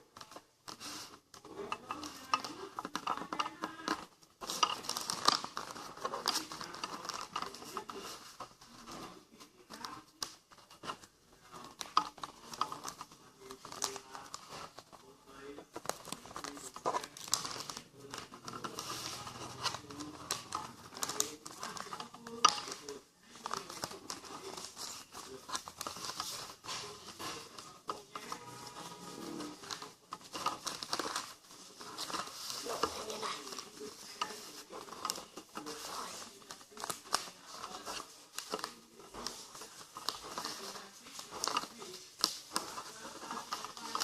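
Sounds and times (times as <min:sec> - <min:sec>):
paper rustling and crinkling: 0:00.0 - 0:44.0.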